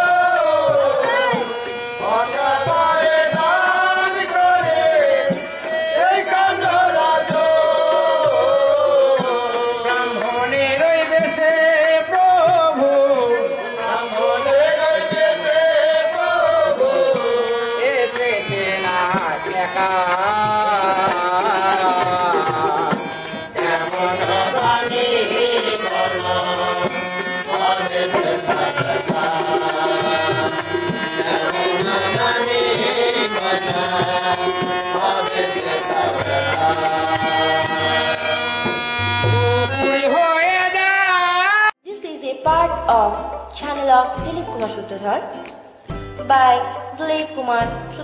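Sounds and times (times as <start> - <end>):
men singing: 0.0 - 41.7
rattling percussion: 0.0 - 41.7
harmonium: 0.0 - 41.8.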